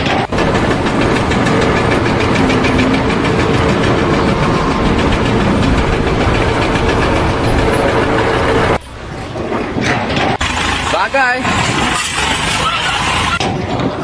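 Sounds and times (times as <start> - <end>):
loud engine running: 0.0 - 13.4.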